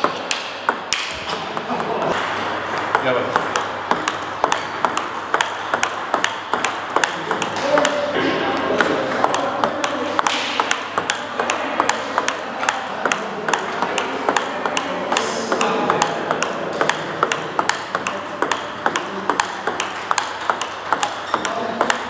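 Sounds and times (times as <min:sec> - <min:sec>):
table tennis ball clicking: 0:00.0 - 0:22.0.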